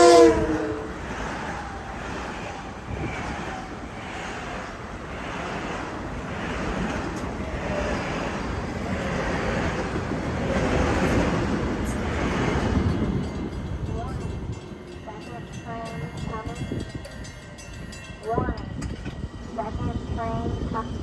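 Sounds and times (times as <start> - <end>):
wind on microphone: 0.0 - 14.8, 15.4 - 21.0
train rumbling past: 0.0 - 21.0.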